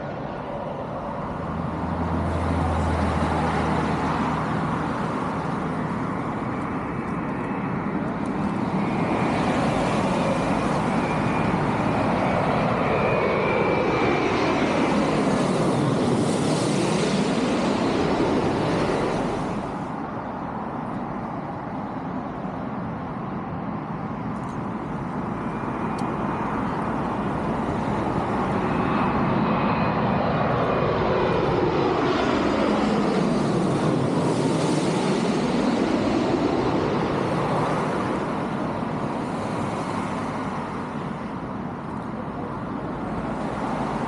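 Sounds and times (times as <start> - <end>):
jet airliner passing overhead: 0.0 - 44.0
road traffic: 0.0 - 44.0.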